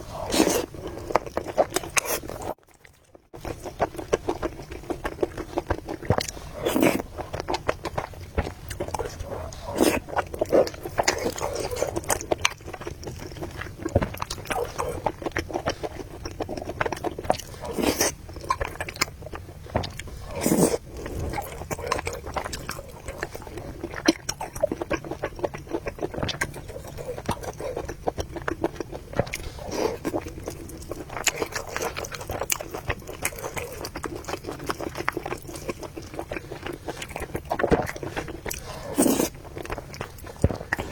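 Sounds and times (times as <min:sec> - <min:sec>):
person chewing noodles: 0:00.0 - 0:40.9.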